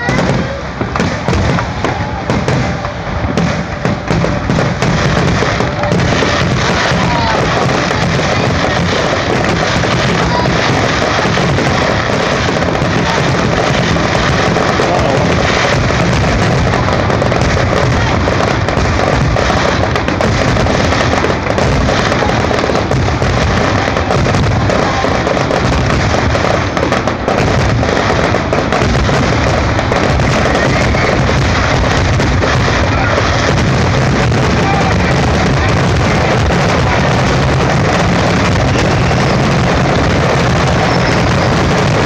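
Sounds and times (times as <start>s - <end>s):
fireworks bangs and crackle: 0.0s - 42.0s.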